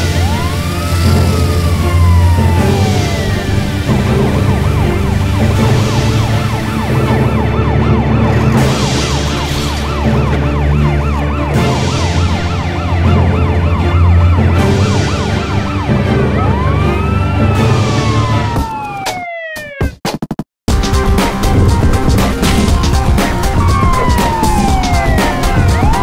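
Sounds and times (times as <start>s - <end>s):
emergency vehicle siren wailing: 0.0s - 19.9s, 22.0s - 26.0s
background music with steady beat: 0.0s - 26.0s.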